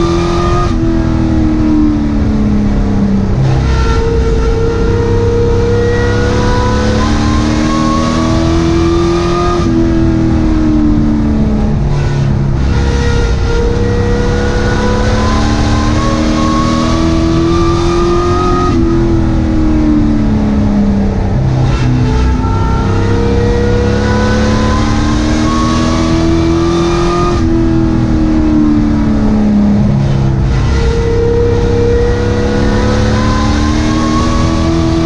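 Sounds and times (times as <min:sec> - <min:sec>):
racing truck engine revving: 0:00.0 - 0:35.0.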